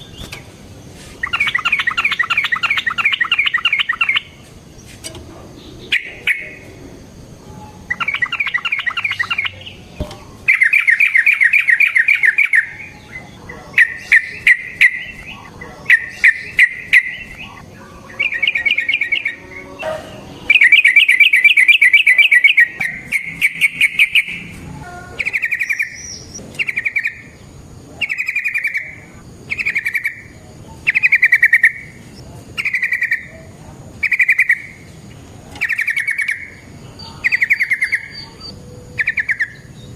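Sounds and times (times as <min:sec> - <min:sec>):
bird singing rolled trills: 0:00.0 - 0:00.6, 0:01.2 - 0:39.9.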